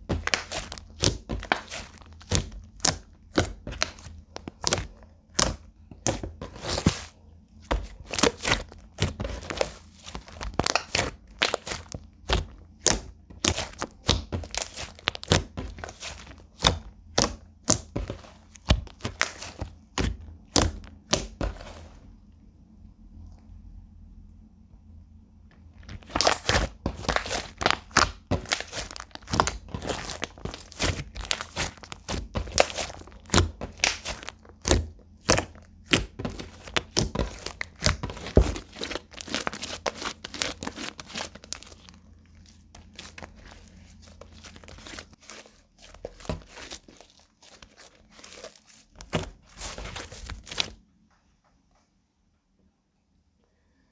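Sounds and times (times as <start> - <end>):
slime clicking and crackling: 0.0 - 21.6, 25.8 - 50.8.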